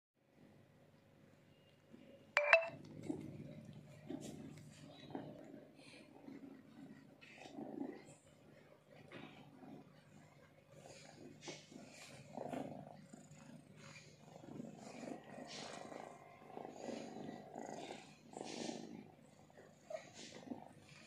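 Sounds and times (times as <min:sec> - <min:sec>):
cat purring: 0:01.5 - 0:21.0.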